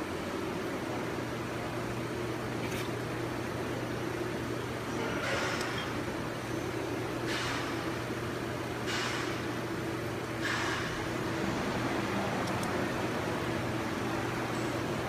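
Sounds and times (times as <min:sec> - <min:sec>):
workshop hum with hiss: 0:00.0 - 0:15.0.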